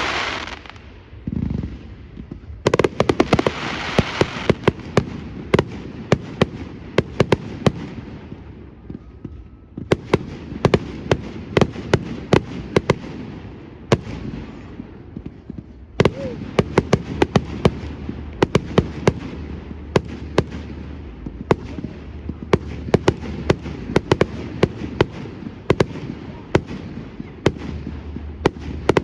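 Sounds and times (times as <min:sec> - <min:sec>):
fireworks bangs: 0:00.0 - 0:29.0.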